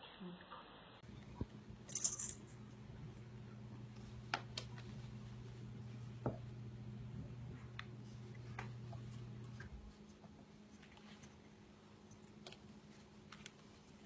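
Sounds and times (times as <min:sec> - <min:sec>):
faint low hum: 0:00.4 - 0:14.0.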